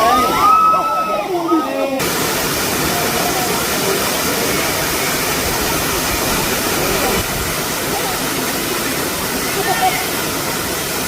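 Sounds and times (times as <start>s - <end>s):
faint voices: 0.0s - 10.7s
waterfall rushing: 0.0s - 11.0s.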